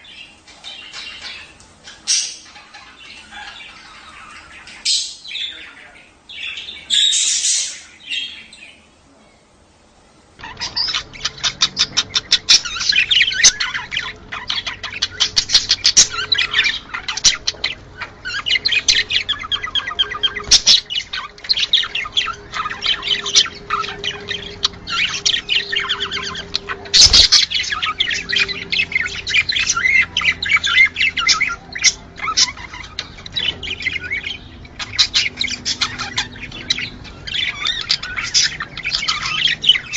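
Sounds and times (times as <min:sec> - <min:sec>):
budgerigars chirping and squawking: 0:00.0 - 0:09.0, 0:10.4 - 0:39.9.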